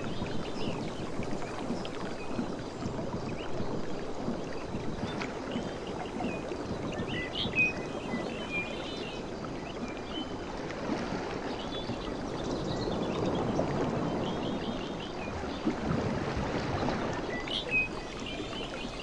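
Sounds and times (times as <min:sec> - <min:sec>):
sea surf washing on shore: 0:00.0 - 0:19.0.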